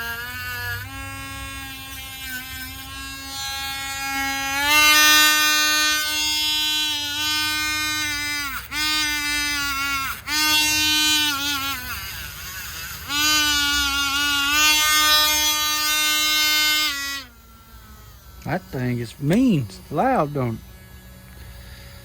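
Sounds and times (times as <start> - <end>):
power tool motor whining: 0.0 - 22.0.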